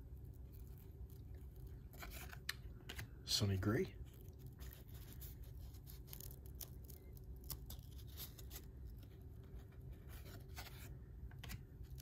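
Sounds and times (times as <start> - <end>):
low steady hum: 0.0 - 12.0
cards shuffling by hand: 0.6 - 12.0.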